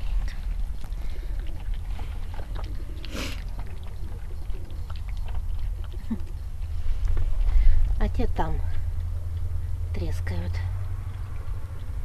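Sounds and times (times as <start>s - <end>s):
dog chewing wetly: 0.0s - 12.0s.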